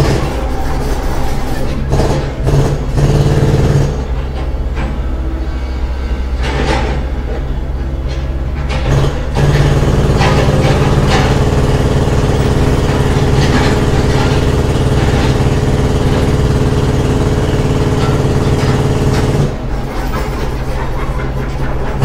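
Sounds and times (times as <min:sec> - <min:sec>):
construction machinery engine: 0:00.0 - 0:22.0.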